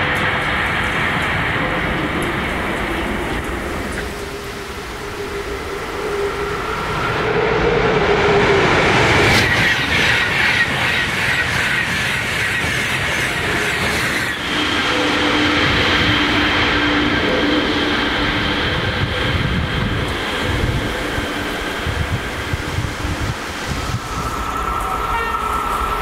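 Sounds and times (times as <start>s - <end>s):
train rushing past: 0.0s - 26.0s.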